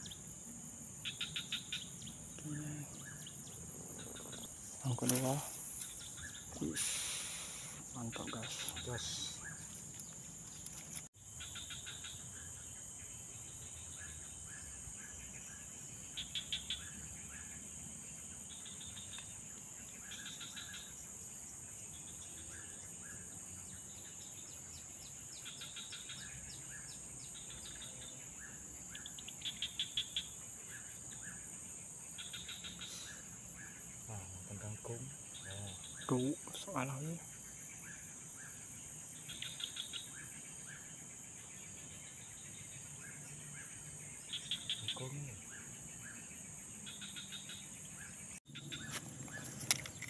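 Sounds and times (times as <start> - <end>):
high-pitched insect drone: 0.0 - 50.0
rapid insect chirping: 0.0 - 50.0.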